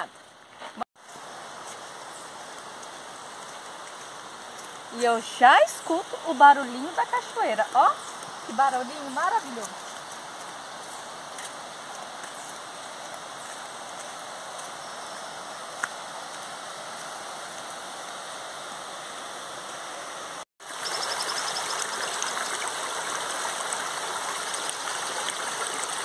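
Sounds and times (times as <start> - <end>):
waterfall and stream rushing: 0.0 - 26.0.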